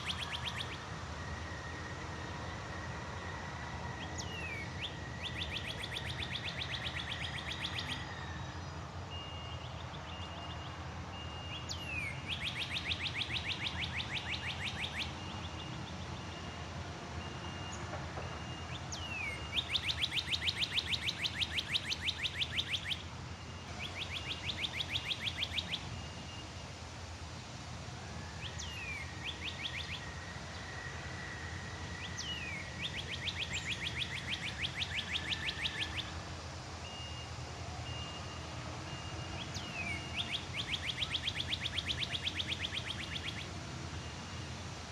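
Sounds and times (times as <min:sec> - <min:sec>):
songbird singing trills: 0:00.0 - 0:02.5, 0:04.0 - 0:16.6, 0:17.2 - 0:26.7, 0:28.1 - 0:44.5.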